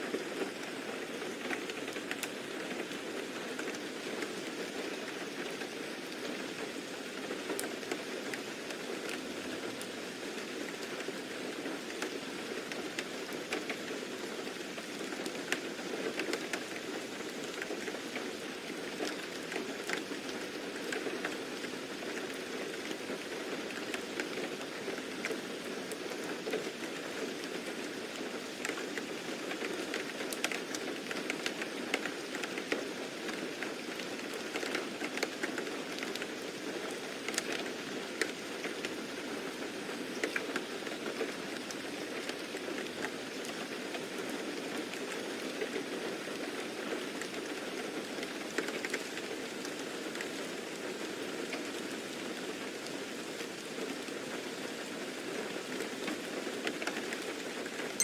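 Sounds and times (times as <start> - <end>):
rain droplets pattering: 0.0 - 58.0.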